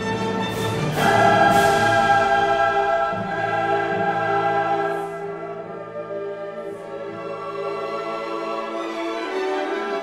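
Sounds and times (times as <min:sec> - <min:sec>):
choir singing held chords: 0:00.7 - 0:09.2.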